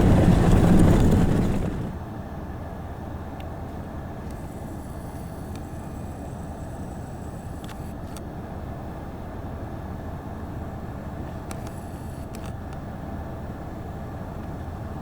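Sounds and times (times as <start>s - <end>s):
tyres and engine rumbling: 0.0s - 15.0s.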